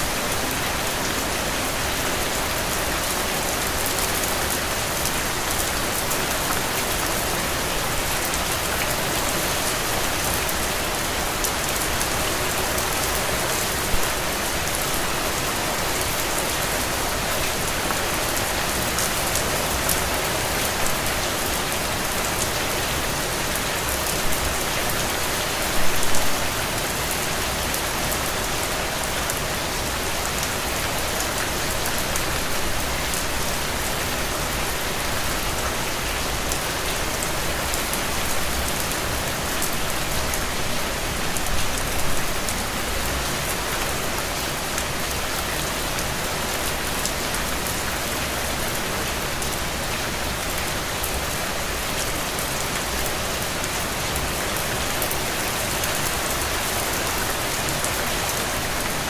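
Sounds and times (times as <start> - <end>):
heavy rain on puddles: 0.0 - 59.0.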